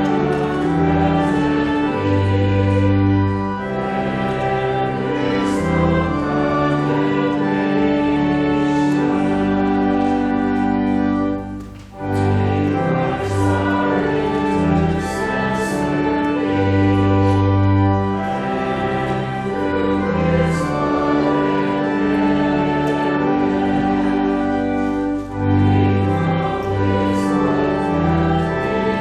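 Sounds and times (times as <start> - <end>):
organ chords: 0.0 - 29.0
voices singing a hymn: 0.0 - 29.0.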